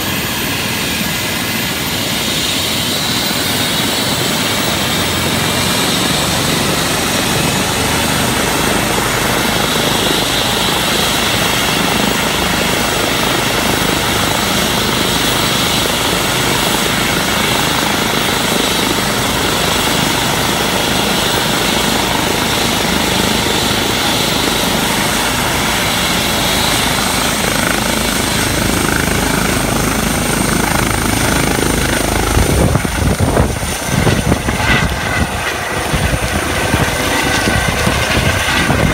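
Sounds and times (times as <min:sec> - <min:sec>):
helicopter rotors turning: 0:00.0 - 0:38.9
turbine whine: 0:00.0 - 0:38.9.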